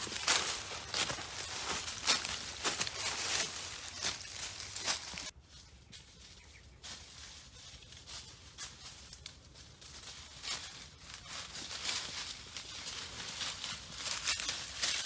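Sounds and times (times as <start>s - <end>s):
leaves and twigs crunching: 0.0s - 15.0s.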